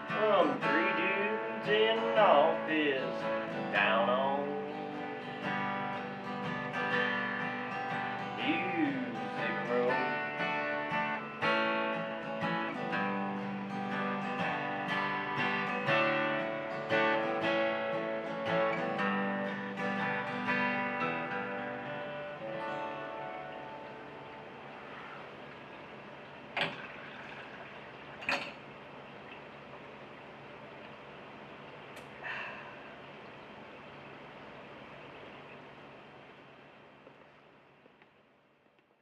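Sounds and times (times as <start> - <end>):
acoustic guitar strumming and picking: 0.0 - 32.1.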